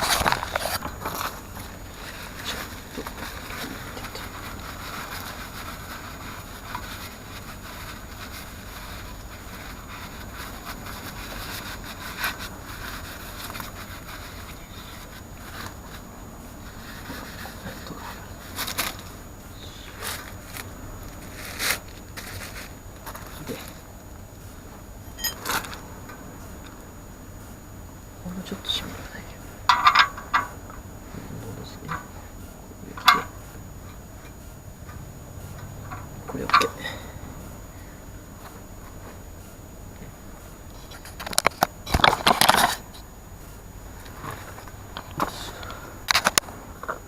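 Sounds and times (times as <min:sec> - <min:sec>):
faint scraping and handling noise: 0:00.0 - 0:27.6, 0:28.2 - 0:47.0.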